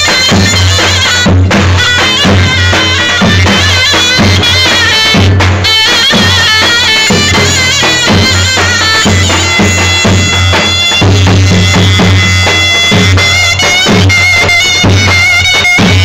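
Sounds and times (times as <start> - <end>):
bass drum beating: 0.0 - 16.0
shrill reed pipe melody: 0.0 - 16.0.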